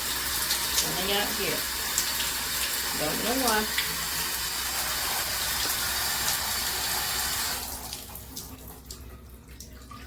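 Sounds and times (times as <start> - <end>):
shower head water rushing: 0.0 - 9.0
water dripping: 0.0 - 10.0.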